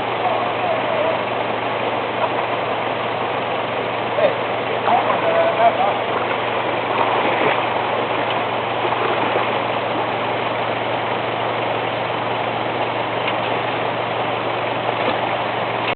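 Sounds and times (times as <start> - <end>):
continuous rushing noise: 0.0 - 15.9
engine idling: 0.0 - 15.9.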